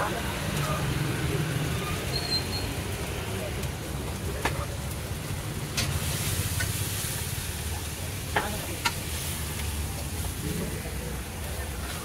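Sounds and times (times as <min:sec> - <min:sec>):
gravy sizzling in oil: 0:00.0 - 0:12.0.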